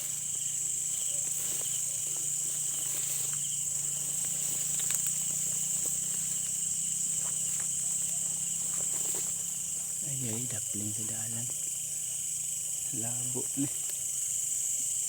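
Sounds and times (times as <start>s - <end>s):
crickets high trill: 0.0s - 15.0s
insects pulsing trill: 0.0s - 15.0s.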